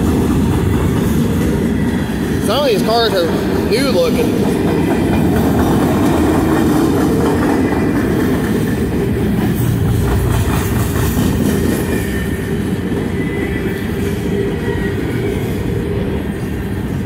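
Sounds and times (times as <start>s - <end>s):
steel wheels rumbling on rail: 0.0s - 17.0s
wheels clacking over rail joints: 0.0s - 17.0s.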